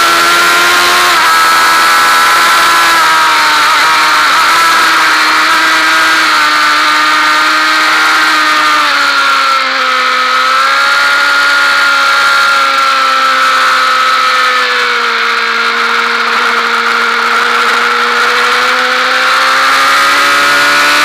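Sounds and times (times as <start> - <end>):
motorcycle engine running hard: 0.0 - 21.0.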